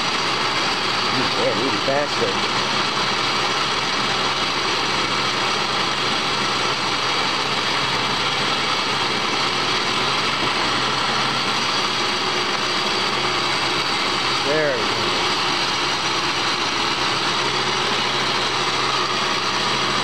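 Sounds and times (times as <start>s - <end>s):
lathe whirring: 0.0s - 20.0s.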